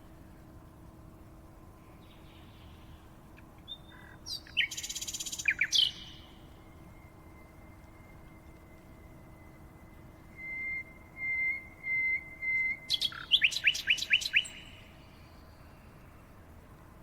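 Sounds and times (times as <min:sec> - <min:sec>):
songbird singing: 0:01.6 - 0:17.0.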